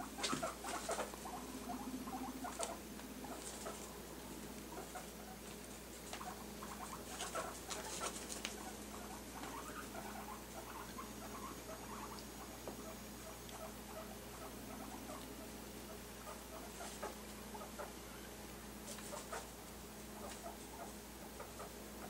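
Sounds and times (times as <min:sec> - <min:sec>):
guinea pigs squeaking: 0:00.0 - 0:22.0.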